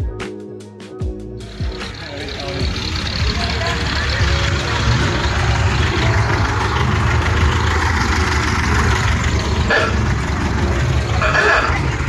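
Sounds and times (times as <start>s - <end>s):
car engine idling: 1.3s - 12.0s.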